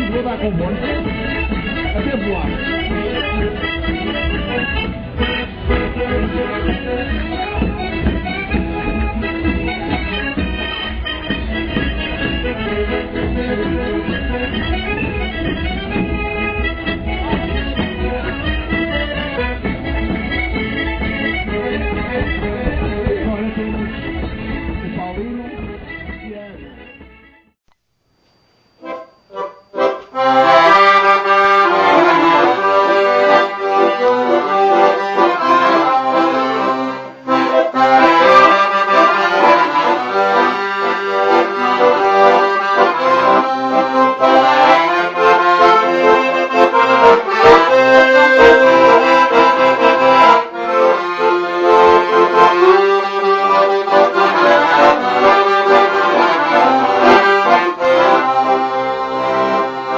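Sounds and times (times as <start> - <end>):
accordion-led traditional tune: 0.0 - 27.6, 28.8 - 59.9.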